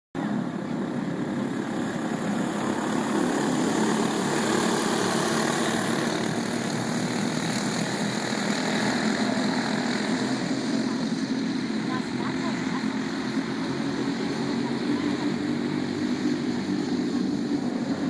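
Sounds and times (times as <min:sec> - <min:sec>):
racing kart engines buzzing: 0:00.2 - 0:18.0.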